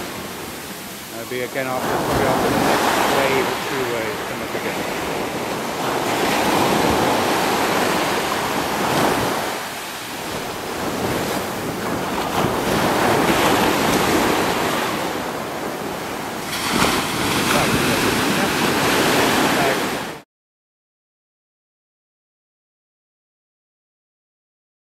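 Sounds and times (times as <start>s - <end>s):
surf washing onto beach: 0.0s - 20.2s
wave breaking: 0.0s - 20.2s.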